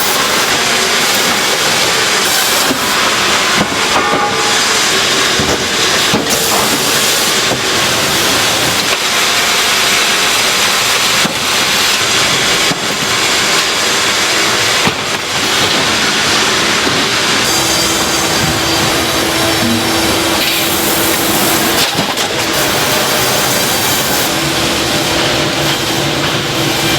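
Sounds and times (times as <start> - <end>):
factory machinery hissing: 0.0 - 26.9.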